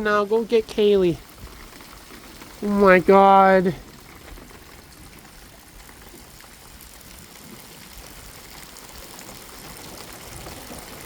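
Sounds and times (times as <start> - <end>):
heavy rain pouring: 0.0 - 11.0
running water: 0.0 - 11.0.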